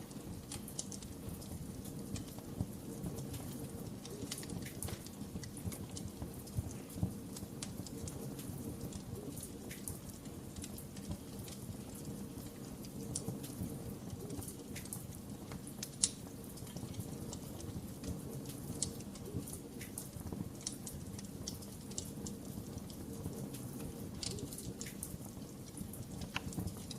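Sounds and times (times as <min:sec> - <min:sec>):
fire crackling and popping: 0:00.0 - 0:26.9.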